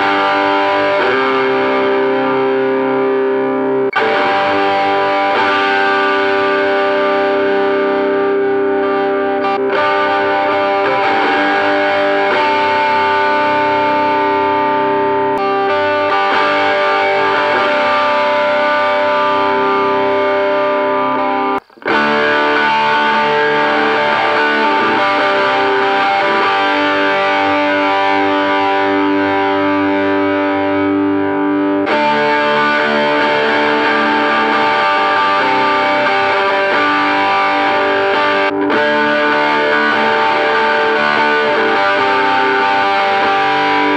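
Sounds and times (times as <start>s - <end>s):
distorted electric guitar chords: 0.0s - 43.9s.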